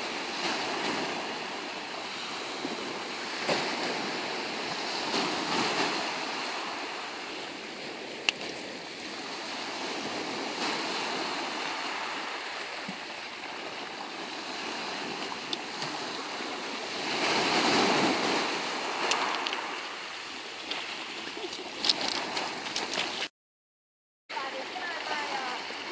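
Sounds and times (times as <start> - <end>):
small waves washing on shore: 0.0 - 23.3, 24.3 - 25.9.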